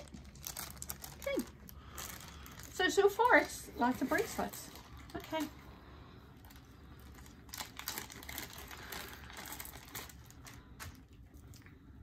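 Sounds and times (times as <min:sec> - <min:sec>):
paper and plastic wrap crinkling: 0:00.0 - 0:05.8, 0:06.4 - 0:11.6.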